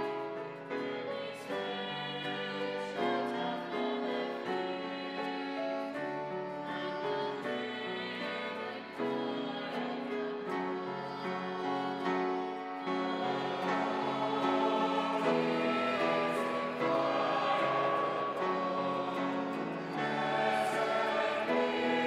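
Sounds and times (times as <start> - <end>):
choir singing in unison: 0.0 - 22.0
soprano saxophone: 0.0 - 22.0.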